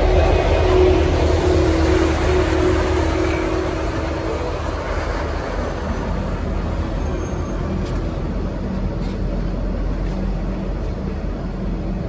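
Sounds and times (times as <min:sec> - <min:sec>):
diesel locomotive engine hum: 0:00.0 - 0:12.0
train carriages rumbling on track: 0:00.0 - 0:12.0.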